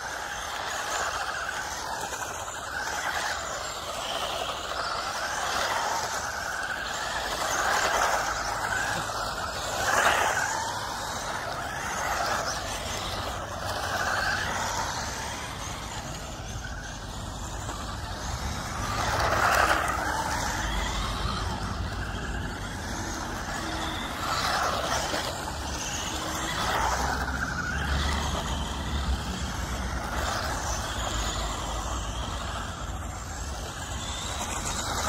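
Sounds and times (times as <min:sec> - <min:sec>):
electric motor whine: 0:00.0 - 0:35.0
tyre noise on asphalt: 0:00.0 - 0:35.0.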